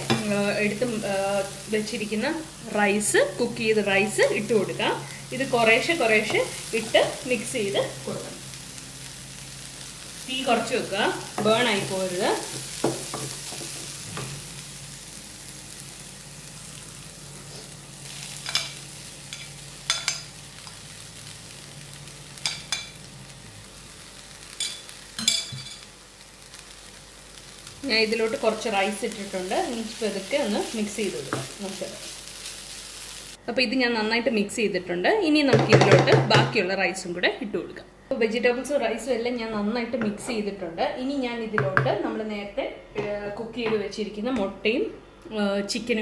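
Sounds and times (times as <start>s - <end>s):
vegetables sizzling in a frying pan: 0.0s - 37.1s.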